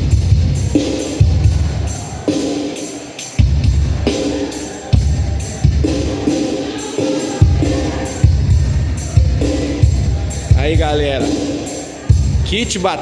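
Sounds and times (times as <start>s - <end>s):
steady hi-hat pattern: 0.0s - 13.0s.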